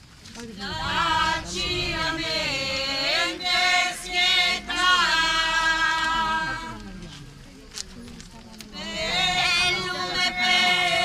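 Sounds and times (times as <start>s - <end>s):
group singing a hymn: 0.4s - 7.1s, 8.7s - 11.0s.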